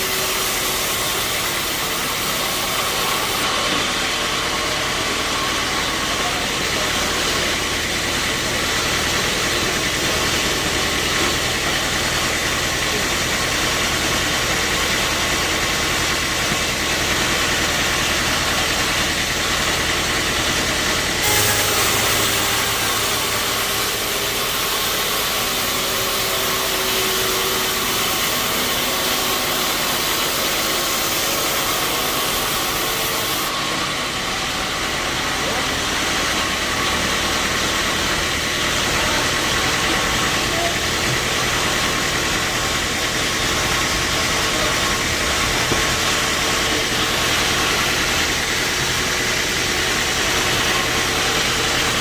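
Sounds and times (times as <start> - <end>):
sawmill machinery running: 0.0 - 52.0.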